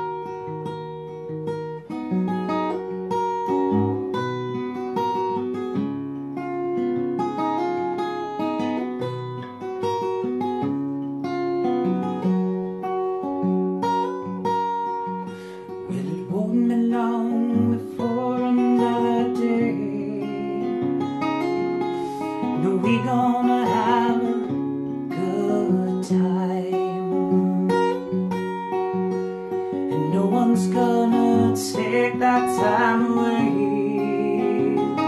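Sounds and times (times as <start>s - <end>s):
acoustic guitar fingerpicked: 0.0s - 35.0s.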